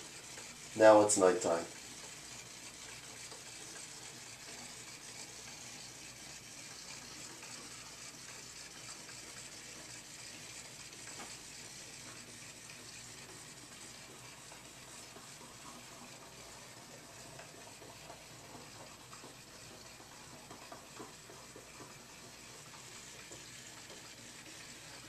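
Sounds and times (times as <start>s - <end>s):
room tone hiss: 0.0s - 25.0s.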